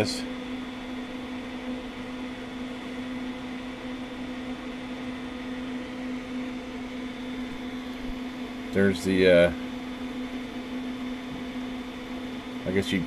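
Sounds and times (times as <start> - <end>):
equipment hum: 0.0 - 13.0.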